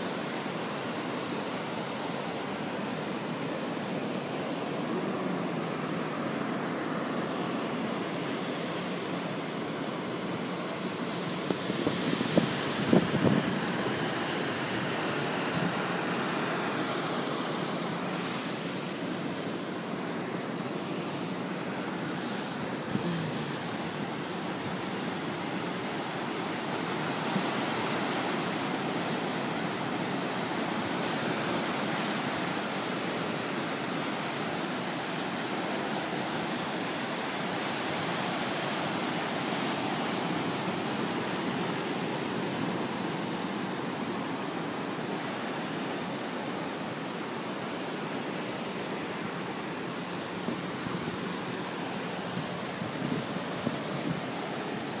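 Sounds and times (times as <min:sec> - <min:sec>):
waves washing over sand: 0:00.0 - 0:55.0.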